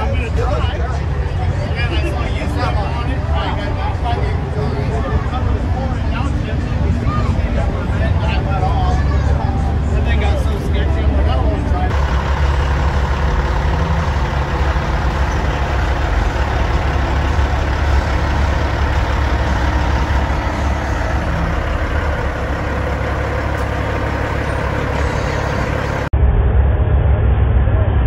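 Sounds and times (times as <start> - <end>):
diesel truck engine idling: 0.0 - 26.1.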